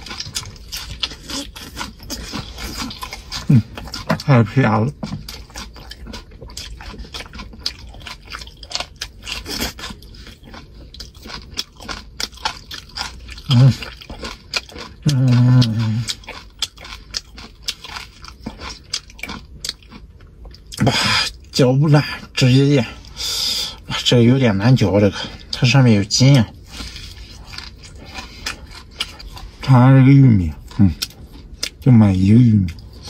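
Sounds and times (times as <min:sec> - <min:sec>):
person chewing meat: 0:00.0 - 0:21.6, 0:22.2 - 0:33.0.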